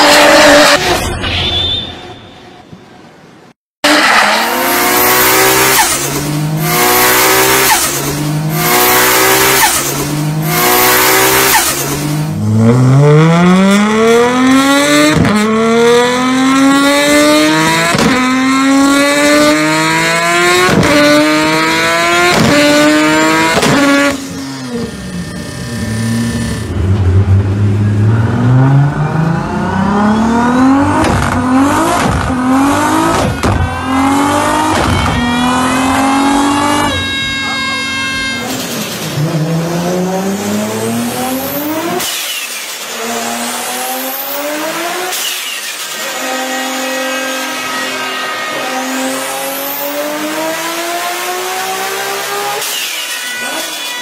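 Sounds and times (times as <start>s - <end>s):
car engines revving on a dyno: 0.0s - 1.0s, 3.8s - 54.0s.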